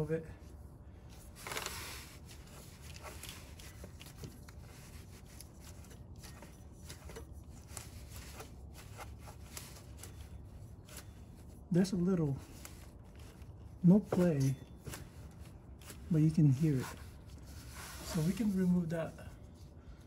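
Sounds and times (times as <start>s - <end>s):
low steady hum: 0.0s - 20.0s
gloved hand rustling: 0.9s - 20.0s.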